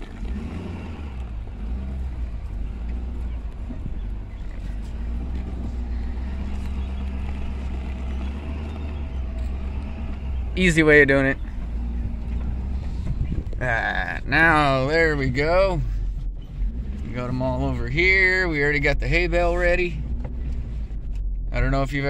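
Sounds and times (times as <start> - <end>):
truck engine low rumble: 0.0 - 22.0.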